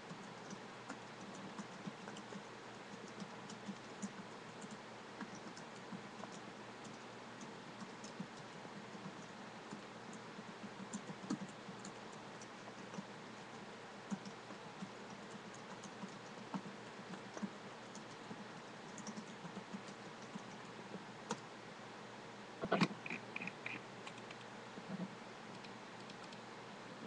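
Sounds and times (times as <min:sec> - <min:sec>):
keyboard typing: 0:00.1 - 0:21.4, 0:22.6 - 0:26.4.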